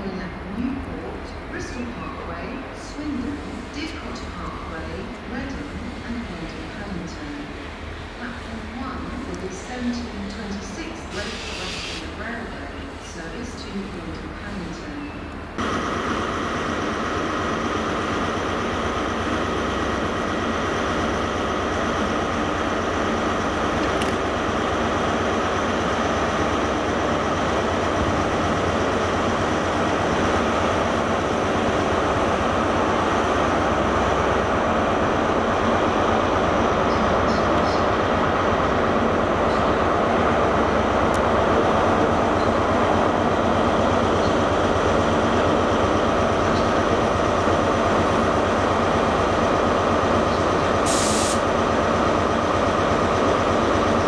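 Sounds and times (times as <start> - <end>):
diesel train engines droning: 0.0 - 54.0.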